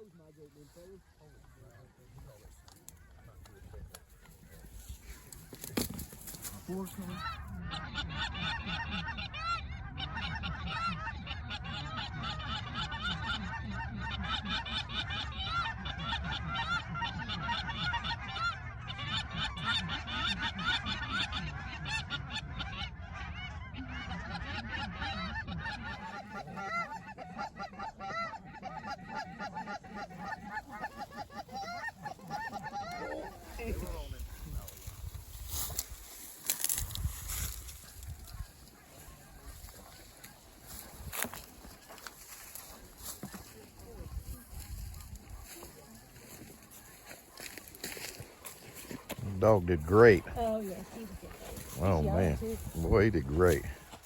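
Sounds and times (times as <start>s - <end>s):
geese honking: 0.3s - 54.0s.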